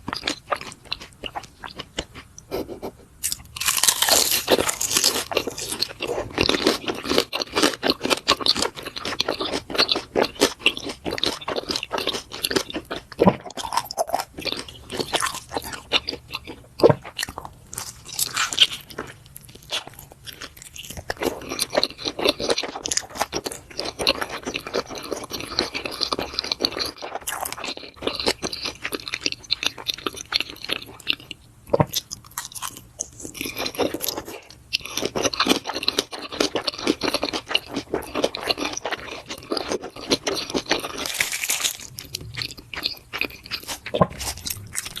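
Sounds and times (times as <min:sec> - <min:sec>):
chewing and biting food: 0:00.0 - 0:45.0.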